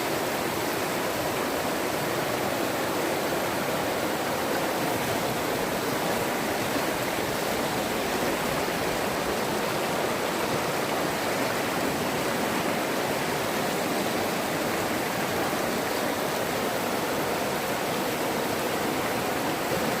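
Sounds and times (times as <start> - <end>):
waterfall rushing and splashing: 0.0 - 20.0.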